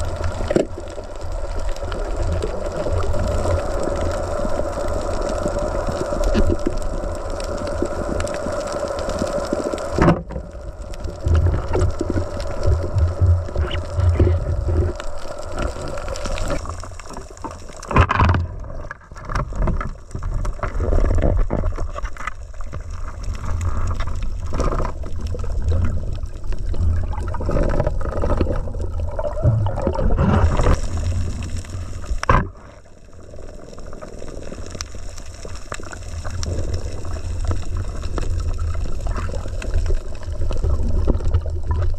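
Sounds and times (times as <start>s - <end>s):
underwater rumbling and bubbling: 0.0s - 41.9s.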